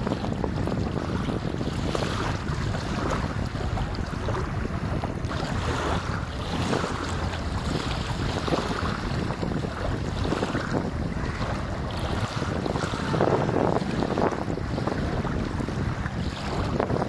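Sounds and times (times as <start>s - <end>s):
choppy sea water splashing: 0.0s - 17.0s
wind buffeting microphone: 0.0s - 17.0s.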